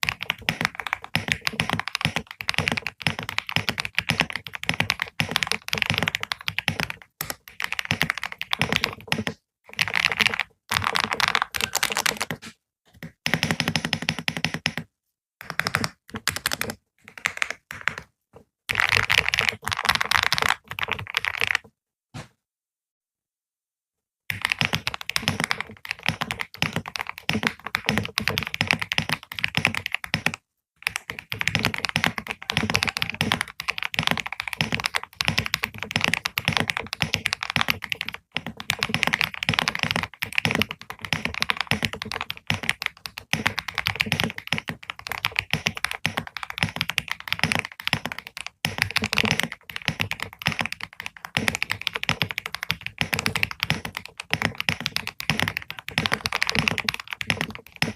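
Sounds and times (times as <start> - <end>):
fast typing on keyboard: 0.0 - 18.1, 18.7 - 21.7, 24.3 - 57.9.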